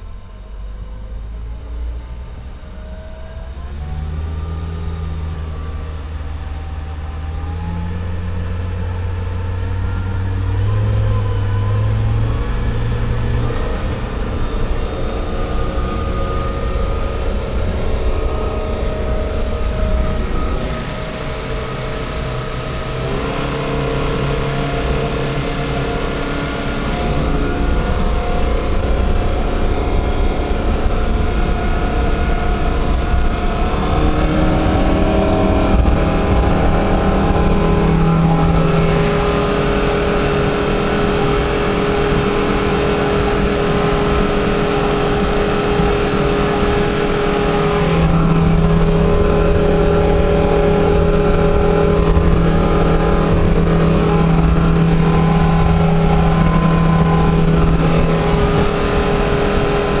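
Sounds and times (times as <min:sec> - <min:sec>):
outboard motor at high revs: 0:00.0 - 1:00.0
wind on microphone: 0:03.4 - 1:00.0
rushing water: 0:03.9 - 1:00.0.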